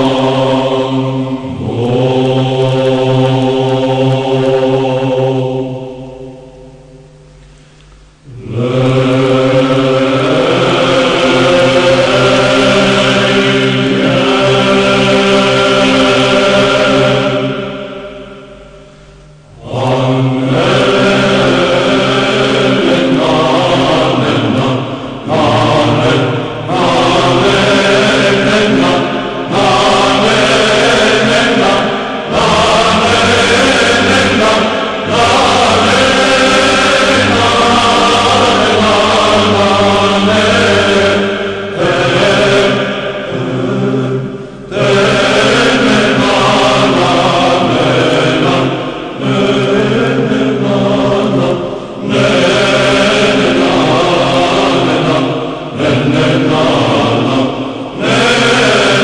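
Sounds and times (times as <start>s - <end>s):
voices chanting a hymn: 0.0s - 59.0s.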